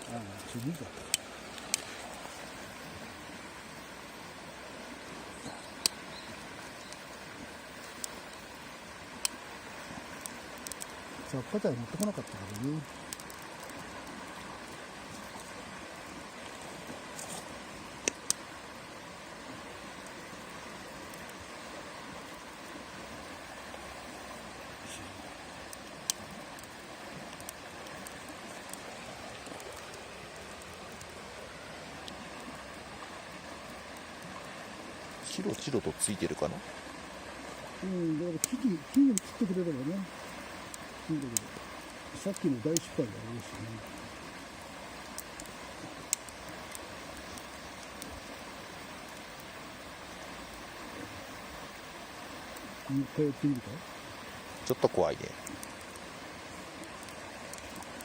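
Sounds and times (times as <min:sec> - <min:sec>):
kindling fire crackling: 0:00.0 - 0:58.0
steady rushing hiss: 0:00.0 - 0:58.0.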